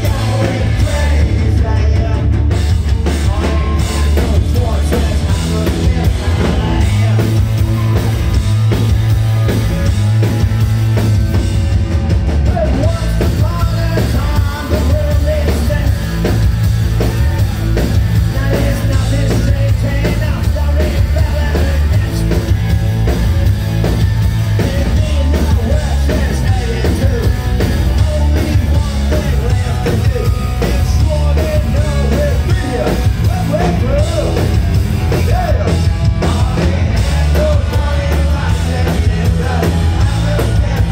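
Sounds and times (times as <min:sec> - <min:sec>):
person singing lead vocal: 0:00.0 - 0:08.1, 0:12.4 - 0:16.4, 0:18.2 - 0:22.9, 0:24.4 - 0:40.9
bass guitar: 0:00.0 - 0:40.9
distorted electric guitars: 0:00.0 - 0:40.9
drum kit: 0:00.0 - 0:40.9.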